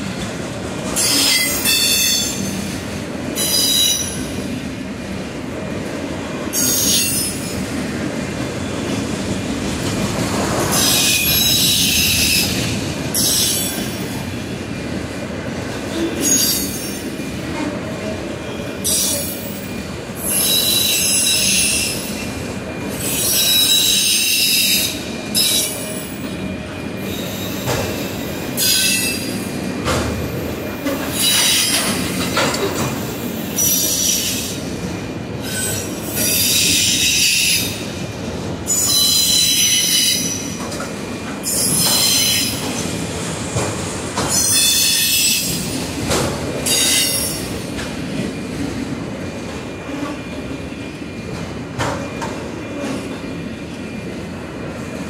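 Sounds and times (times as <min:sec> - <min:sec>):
rumble of train wheels on rail: 0:00.0 - 0:55.0.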